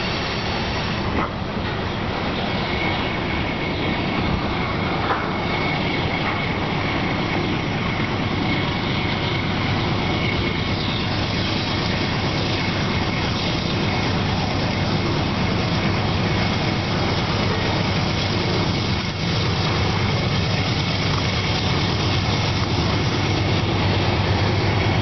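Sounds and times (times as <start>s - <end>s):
freight train rolling on rails: 0.0s - 25.0s.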